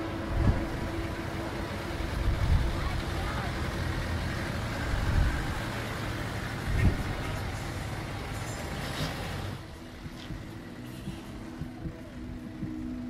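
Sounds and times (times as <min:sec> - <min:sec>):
low traffic rumble: 0:00.0 - 0:13.0
passing cars and heavy vehicles: 0:00.0 - 0:13.0.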